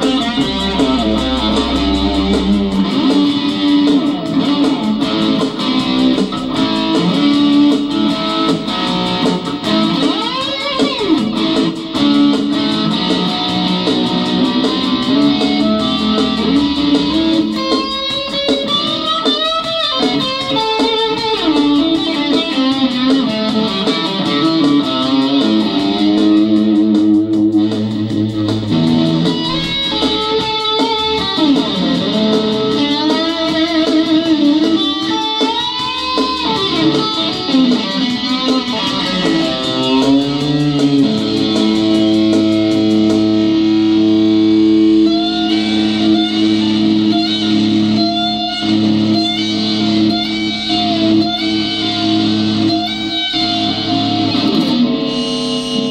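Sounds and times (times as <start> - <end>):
electric guitar lead with bends: 0.0 - 55.9
sustained low guitar notes: 0.0 - 55.9.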